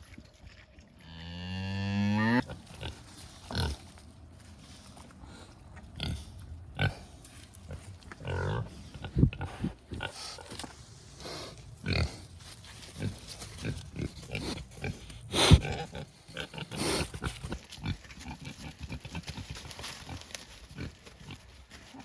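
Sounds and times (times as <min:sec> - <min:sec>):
pigs grunting: 0:01.2 - 0:03.9, 0:05.3 - 0:07.1, 0:07.7 - 0:10.6, 0:11.2 - 0:22.0.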